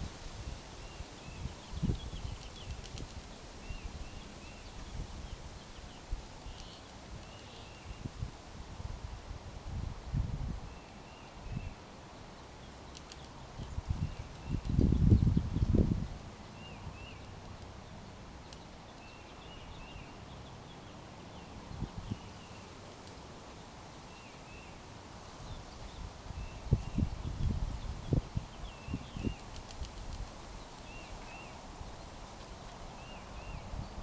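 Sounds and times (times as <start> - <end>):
songbirds chirping: 0.0 - 8.3, 10.7 - 34.0
low background noise: 0.0 - 34.0.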